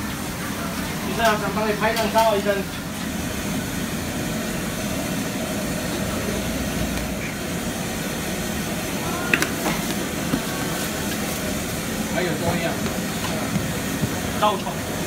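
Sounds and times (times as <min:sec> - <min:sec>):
kitchen machinery hiss and hum: 0:00.0 - 0:15.0.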